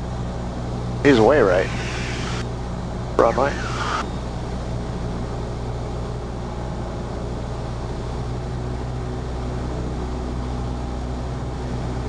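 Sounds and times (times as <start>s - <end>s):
airplane engine droning: 0.0s - 12.0s.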